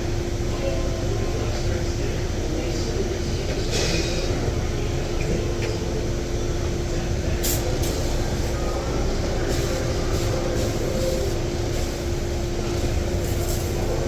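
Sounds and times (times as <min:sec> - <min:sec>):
constant hum tone: 0:00.0 - 0:14.0.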